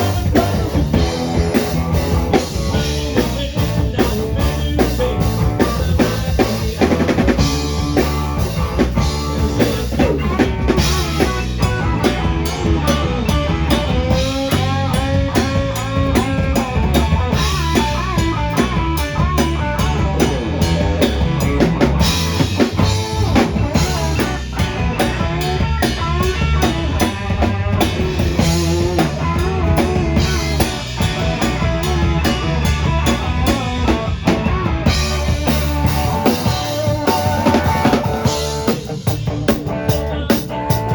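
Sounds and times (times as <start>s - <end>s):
drum kit beat: 0.0s - 40.9s
electric guitar: 0.0s - 40.9s
rock band playing live: 0.0s - 40.9s.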